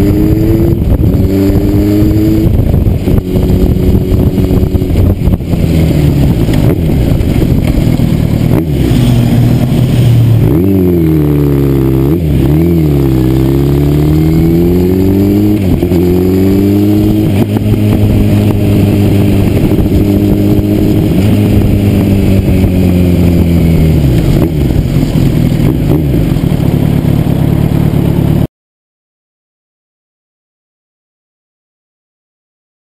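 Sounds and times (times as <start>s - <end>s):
wind rush on microphone: 0.0s - 26.8s
motorcycle engine revving: 0.0s - 28.5s.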